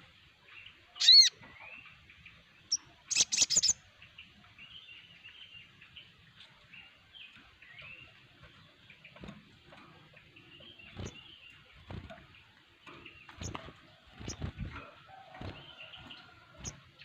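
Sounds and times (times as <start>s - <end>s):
birds chirping and whistling: 0.5s - 6.2s, 6.8s - 17.0s.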